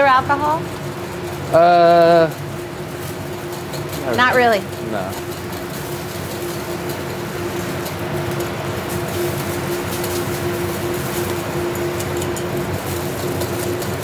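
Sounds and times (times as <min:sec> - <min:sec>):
exhaust hood hum: 0:00.0 - 0:14.0
gas range flame roaring: 0:00.0 - 0:14.0.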